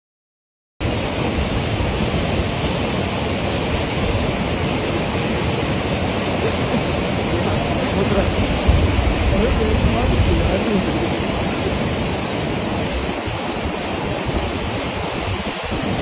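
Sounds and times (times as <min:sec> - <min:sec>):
wind buffeting microphone: 0:00.9 - 0:16.0.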